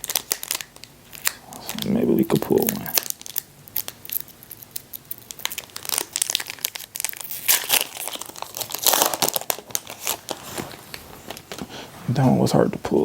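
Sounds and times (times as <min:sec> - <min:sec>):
foil wrapper crinkling and tearing: 0:00.0 - 0:11.6.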